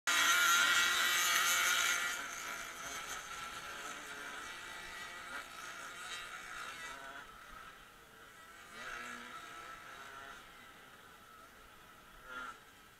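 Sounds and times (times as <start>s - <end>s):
motorcycle engines buzzing: 0.1s - 12.9s.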